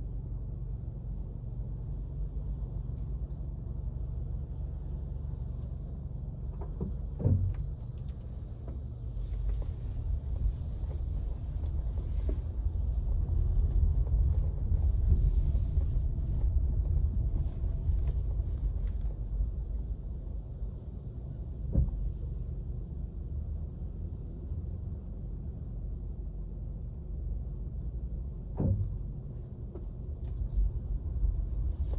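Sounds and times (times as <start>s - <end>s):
car road and engine rumble: 0.0s - 31.9s.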